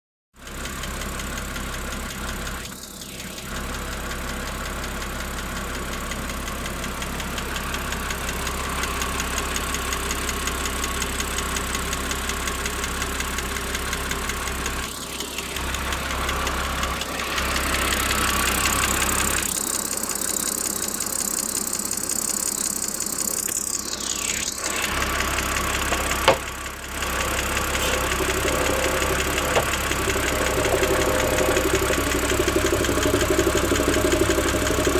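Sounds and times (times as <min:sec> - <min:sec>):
car engine running: 0:00.4 - 0:34.9
fast even engine ticking: 0:00.4 - 0:34.9.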